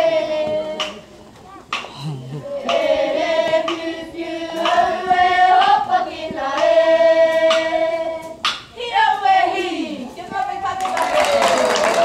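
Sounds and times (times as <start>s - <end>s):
girls and children singing: 0.0s - 1.2s, 2.3s - 12.0s.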